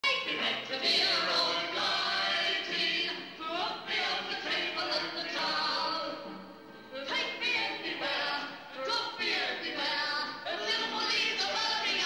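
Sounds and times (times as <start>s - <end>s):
choir singing: 0.1s - 6.4s, 7.0s - 12.0s.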